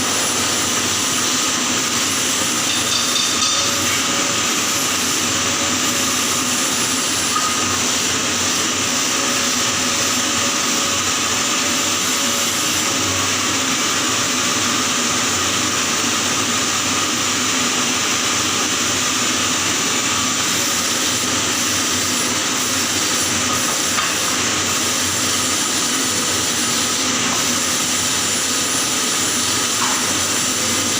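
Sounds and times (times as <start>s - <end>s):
welding arc sizzling: 0.0s - 30.9s.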